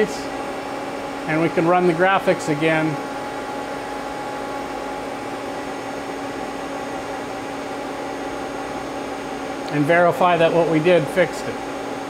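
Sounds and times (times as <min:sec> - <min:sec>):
idle lathe hum and hiss: 0:00.0 - 0:12.0.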